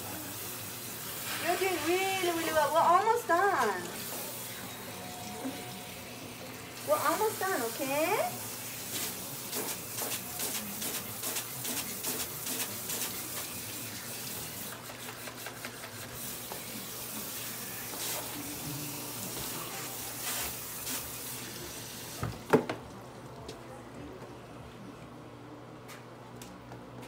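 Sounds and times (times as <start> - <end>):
water running over hair: 0.0 - 22.4.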